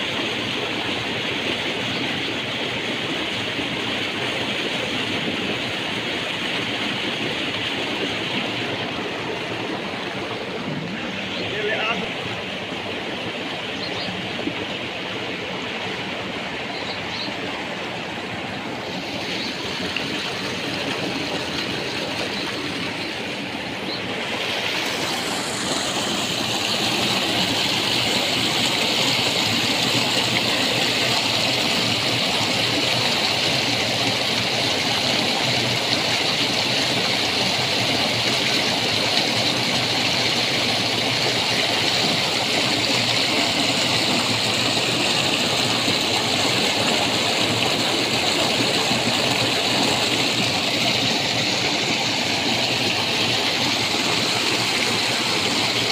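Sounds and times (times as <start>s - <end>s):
water splashing over concrete: 0.0s - 16.6s, 17.2s - 55.9s
water rushing along channels: 0.0s - 55.9s.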